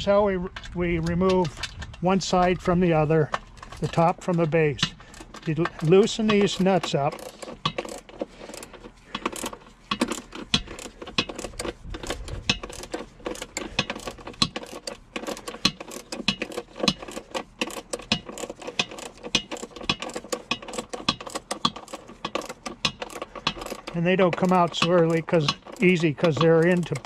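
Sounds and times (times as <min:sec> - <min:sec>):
ratchet wrench clicking: 0:03.6 - 0:27.0.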